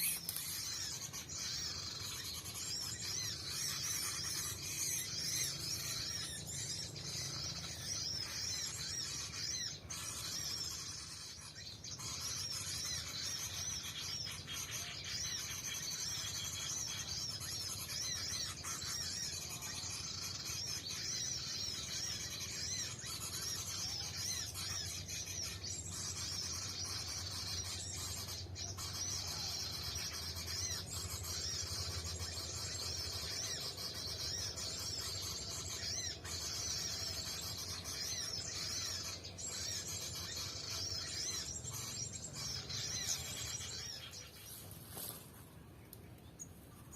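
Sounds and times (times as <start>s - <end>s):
small bird chirping: 0.0s - 46.9s.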